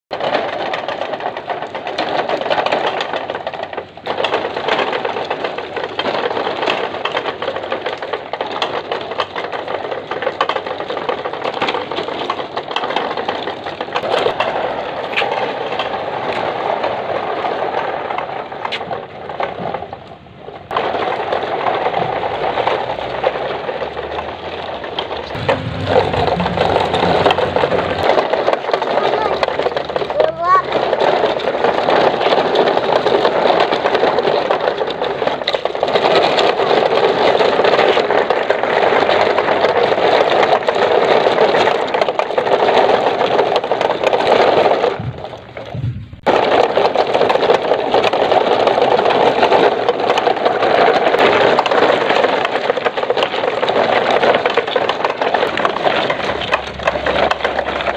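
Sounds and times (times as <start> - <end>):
plastic toy trucks rolling on gravel: 0.2 - 57.9.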